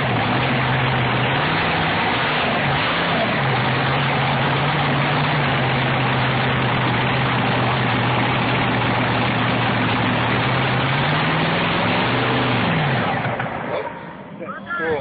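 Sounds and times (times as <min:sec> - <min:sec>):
boat engine idling loudly: 0:00.0 - 0:14.4.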